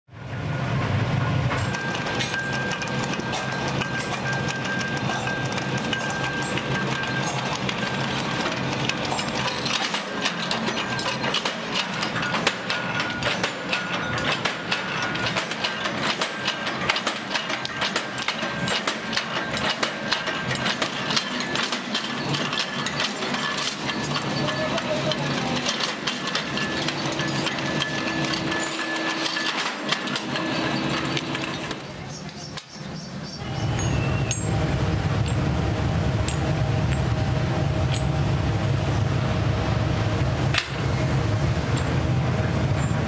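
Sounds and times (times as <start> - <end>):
machine shearing steel bars: 0.5 - 43.0.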